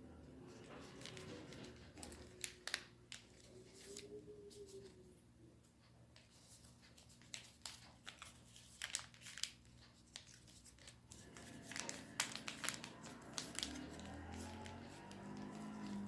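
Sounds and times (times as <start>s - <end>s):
faint music: 0.0s - 16.0s
paper crinkling and folding: 0.5s - 5.1s, 6.1s - 16.0s.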